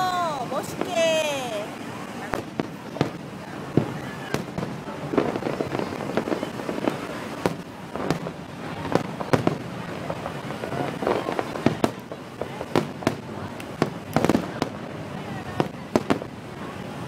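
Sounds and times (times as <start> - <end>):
fireworks bursting with sharp bangs: 0.0 - 17.0
steady background hiss: 0.0 - 17.0.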